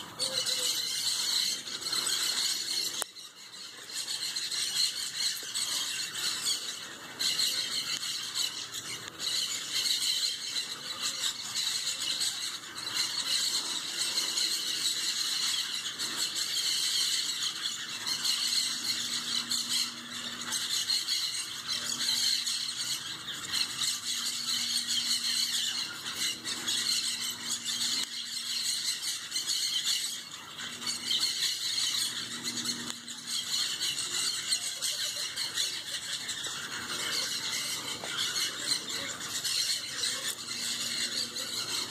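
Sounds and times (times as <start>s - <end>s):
parrots squawking: 0.0s - 41.9s.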